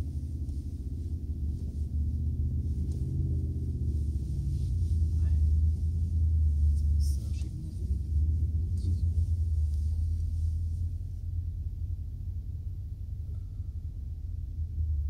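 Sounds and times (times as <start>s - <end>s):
engine and drivetrain drone: 0.0s - 15.0s.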